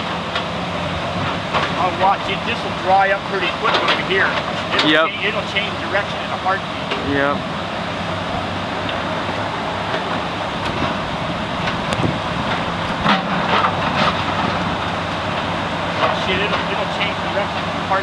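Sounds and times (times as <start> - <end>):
excavator diesel engine humming: 0.0 - 18.0
floodwater rushing: 0.0 - 18.0.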